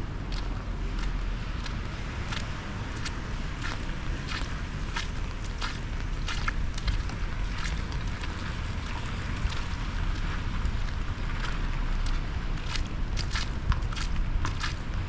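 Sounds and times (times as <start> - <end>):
wind rumble on microphone: 0.0 - 15.0
footsteps: 0.3 - 15.0.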